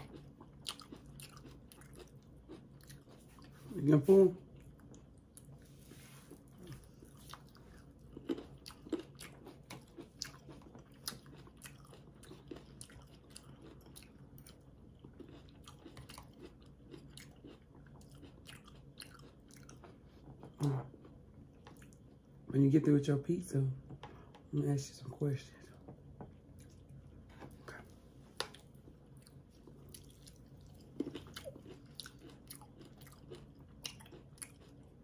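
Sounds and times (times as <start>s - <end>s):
chewing and biting food: 0.0s - 3.8s, 6.3s - 22.2s, 25.8s - 35.0s.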